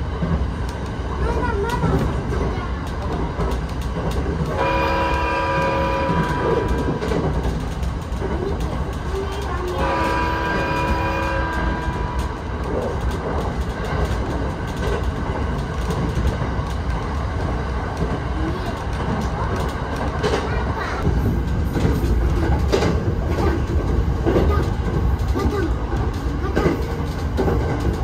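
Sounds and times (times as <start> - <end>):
rail clacks: 0.0 - 28.0
train rumbling on rails: 0.0 - 28.0.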